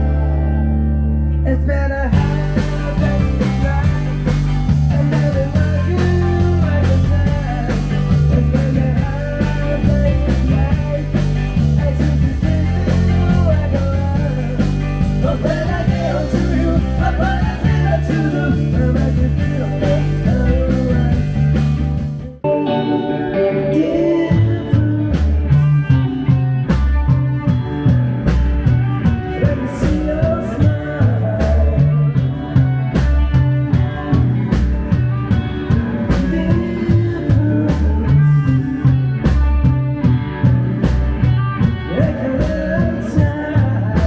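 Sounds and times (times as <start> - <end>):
rock music with singing: 0.0 - 44.0.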